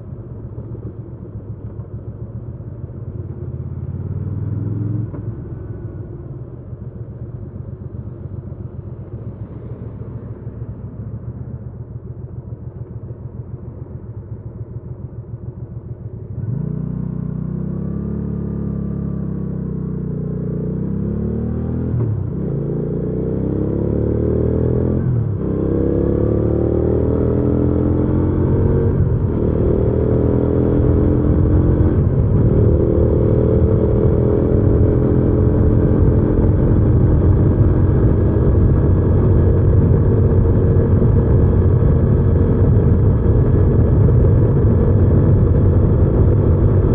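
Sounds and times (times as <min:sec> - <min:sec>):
motorcycle engine accelerating: 0:00.6 - 0:06.0, 0:07.7 - 0:46.9.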